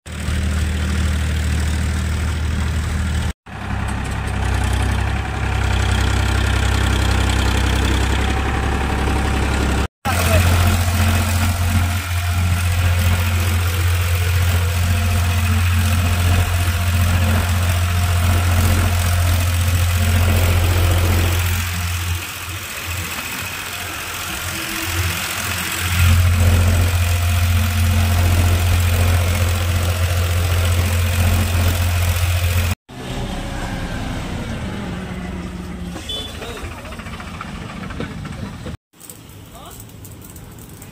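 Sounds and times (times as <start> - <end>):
tractor diesel engine idling: 0.1 - 38.8.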